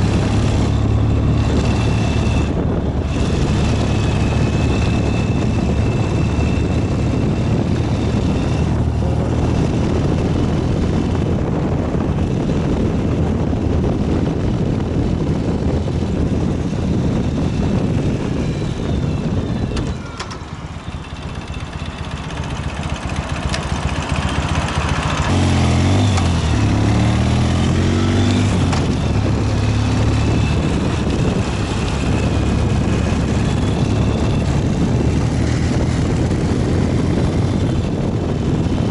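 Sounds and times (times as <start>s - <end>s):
motorcycle engine running: 0.0s - 38.9s
road and wind noise: 0.0s - 38.9s.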